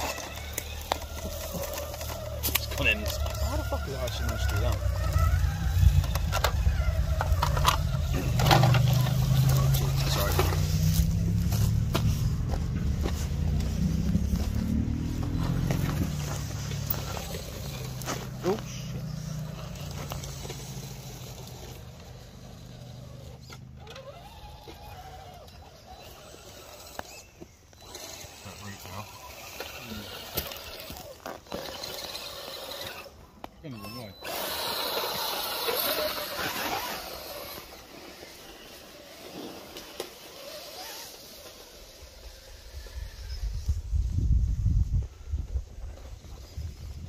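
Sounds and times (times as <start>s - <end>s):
toy truck motor drone: 0.0s - 47.0s.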